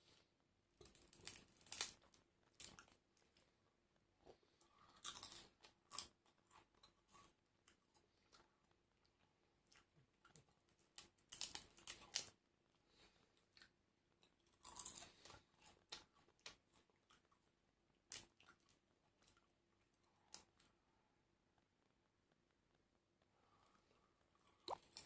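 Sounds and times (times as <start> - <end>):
crunchy chewing of fried food: 0.0 - 25.0.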